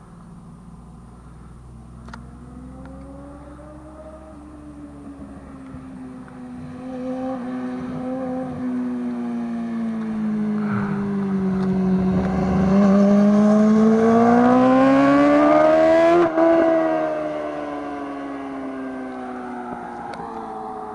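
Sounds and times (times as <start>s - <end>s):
motorcycle engine accelerating: 1.4s - 20.9s.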